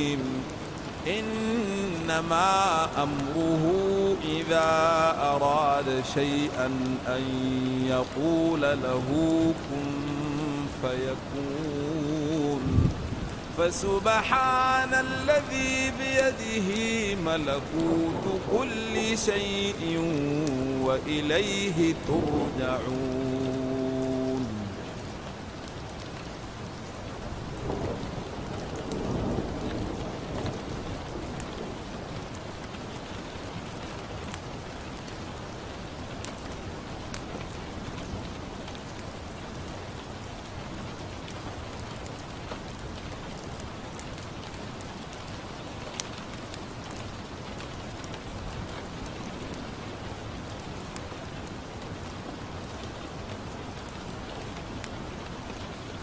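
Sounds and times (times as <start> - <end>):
fireplace crackling: 0.0 - 27.6, 31.4 - 56.0
steady rain: 0.0 - 56.0.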